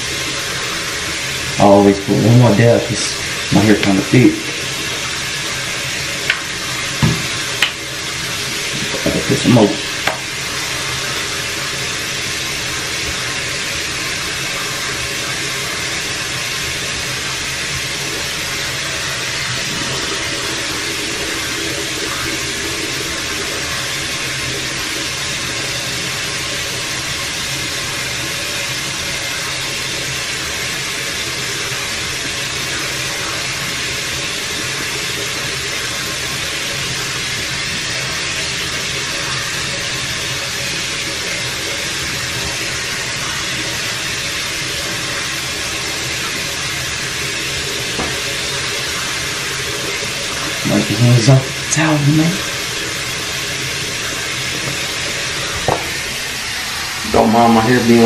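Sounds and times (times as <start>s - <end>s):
water running: 0.0s - 58.0s.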